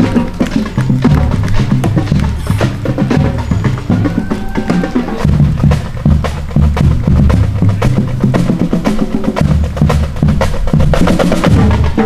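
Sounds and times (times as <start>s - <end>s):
bass drum: 0.0s - 12.0s.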